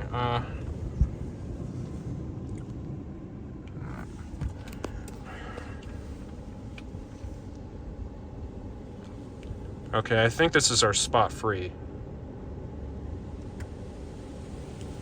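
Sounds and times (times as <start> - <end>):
car wash machinery rumbling: 0.0 - 15.0.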